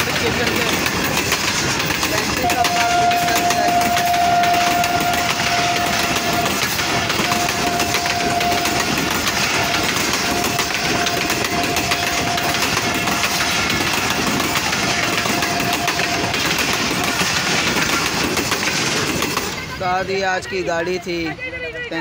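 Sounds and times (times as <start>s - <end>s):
rapid rattling clicks: 0.0s - 19.6s
train wheels rushing on rails: 0.0s - 20.9s.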